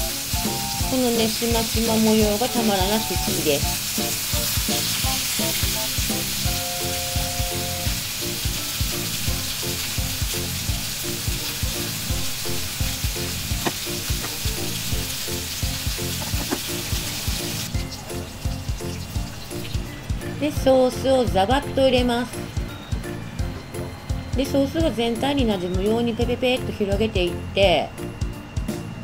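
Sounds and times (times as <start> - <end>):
meat sizzling in grill pan: 0.0 - 23.5.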